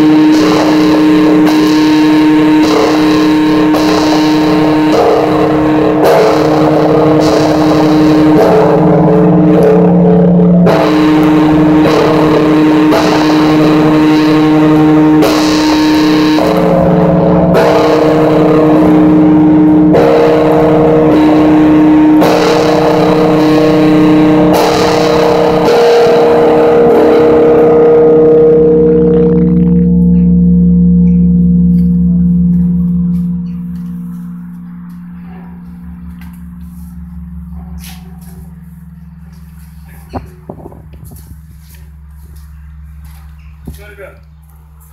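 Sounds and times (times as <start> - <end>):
deep steady hum: 0.0 - 44.9
large church bell ringing: 0.0 - 44.9.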